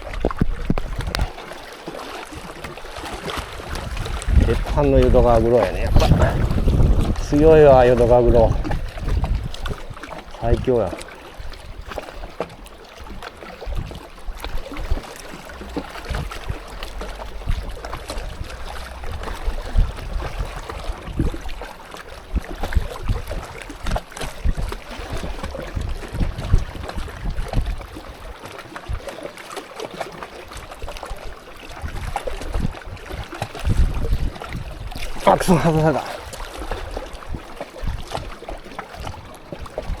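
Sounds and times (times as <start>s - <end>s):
wind buffeting microphone: 0.0s - 1.4s, 2.3s - 29.2s, 30.5s - 40.0s
water lapping: 0.0s - 40.0s.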